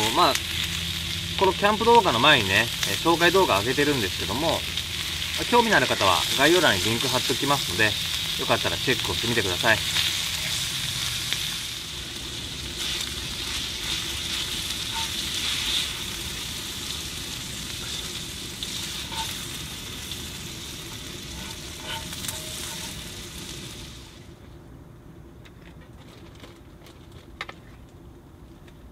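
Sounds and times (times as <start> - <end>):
meat sizzling in a pan: 0.0 - 24.2.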